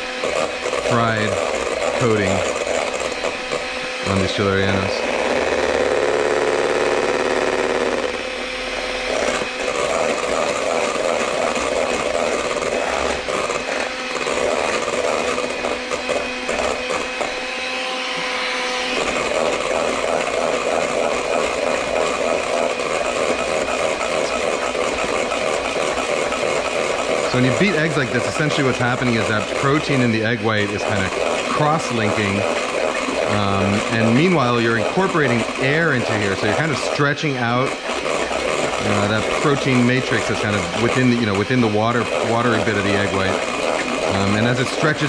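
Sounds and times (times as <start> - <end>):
electric hand mixer whirring: 0.0 - 45.0.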